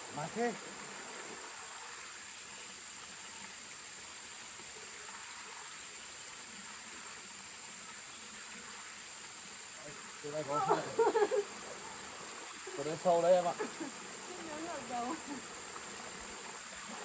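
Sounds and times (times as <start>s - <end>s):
stream water: 0.0s - 17.0s.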